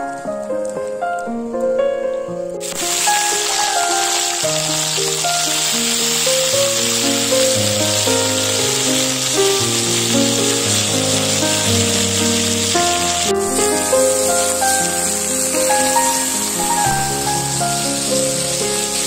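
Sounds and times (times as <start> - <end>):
background music: 0.0 - 19.0
vegetables sizzling in a wok: 2.6 - 19.0.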